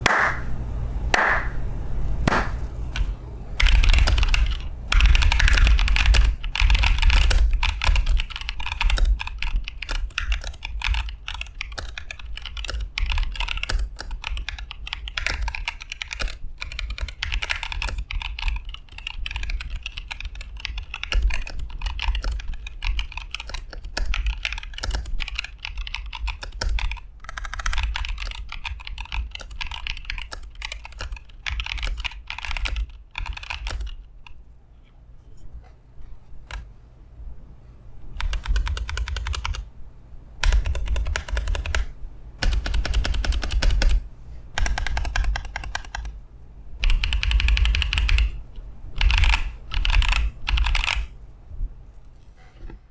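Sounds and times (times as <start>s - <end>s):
mechanical keyboard typing: 2.3s - 34.4s, 36.5s - 36.7s, 38.2s - 39.7s, 40.4s - 44.0s, 44.6s - 46.2s, 46.8s - 48.4s, 49.0s - 51.1s.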